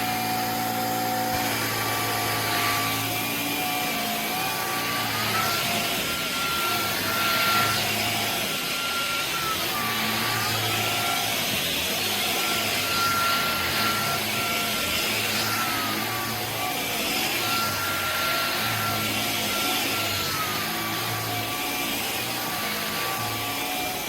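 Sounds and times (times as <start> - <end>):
stick vacuum running: 0.0 - 24.0.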